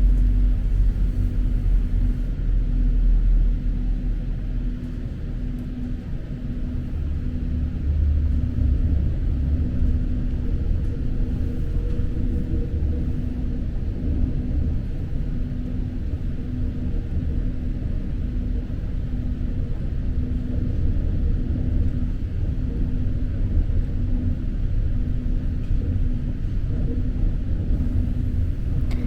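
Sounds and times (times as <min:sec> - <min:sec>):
faint steady hum: 0:00.0 - 0:29.0
train rumbling on rails: 0:00.0 - 0:29.0.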